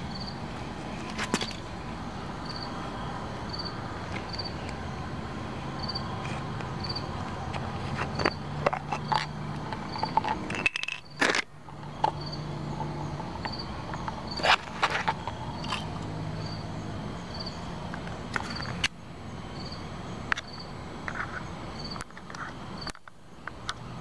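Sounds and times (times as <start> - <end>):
insect chirps: 0.0 - 24.0
steady low hum: 0.0 - 24.0.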